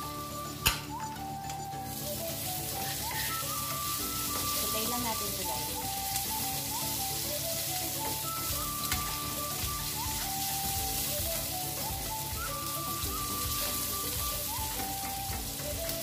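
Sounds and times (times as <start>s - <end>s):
slow background music: 0.0s - 16.0s
vegetables sizzling in hot oil: 0.0s - 16.0s
wooden spatula stirring: 1.2s - 16.0s.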